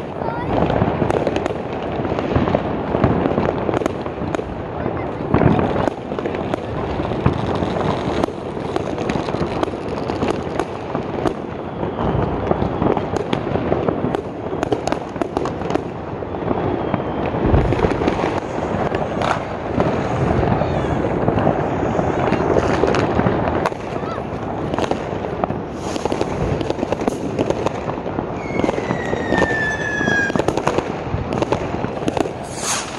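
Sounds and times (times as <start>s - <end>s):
fireworks crackling and rumbling: 0.0s - 32.9s
sharp firework bangs: 0.0s - 32.9s.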